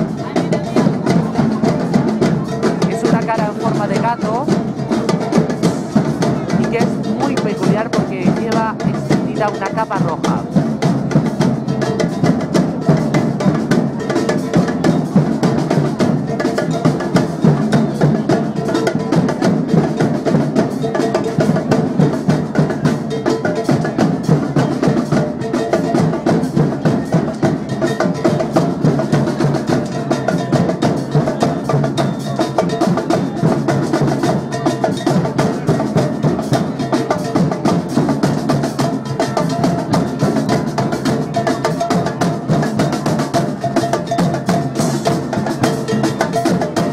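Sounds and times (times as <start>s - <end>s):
drum group playing fast rhythm: 0.0s - 46.9s.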